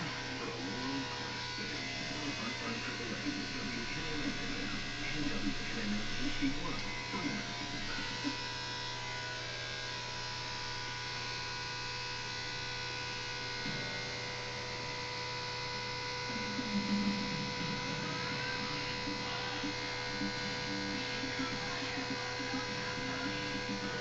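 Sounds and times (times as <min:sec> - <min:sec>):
electric clippers buzzing: 0:00.0 - 0:24.0.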